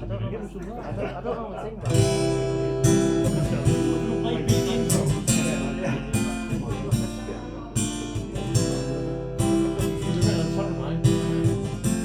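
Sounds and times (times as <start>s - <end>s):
acoustic guitar strumming chords: 1.8s - 12.0s.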